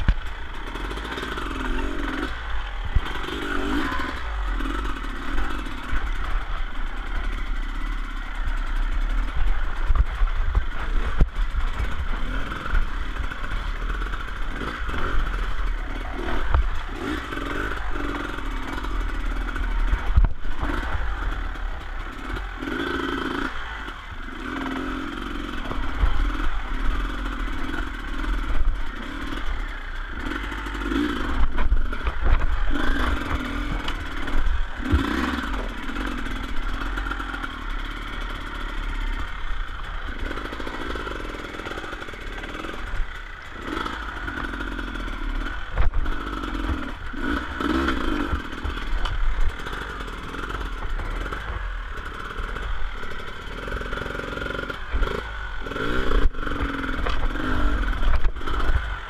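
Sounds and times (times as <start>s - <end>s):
dirt bike engine at low revs: 0.0s - 59.0s.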